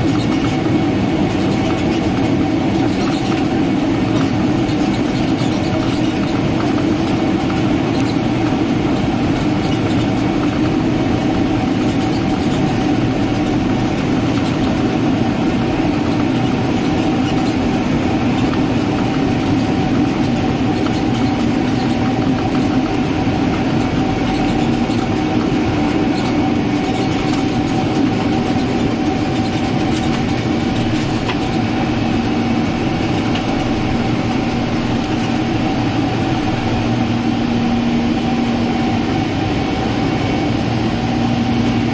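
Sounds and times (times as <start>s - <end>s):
jet cabin engine hum: 0.0s - 41.9s.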